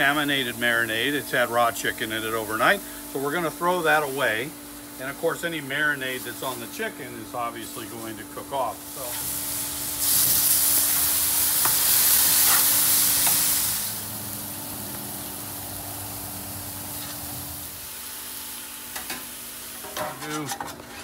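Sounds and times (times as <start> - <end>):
meat sizzling on a griddle: 0.0 - 20.1.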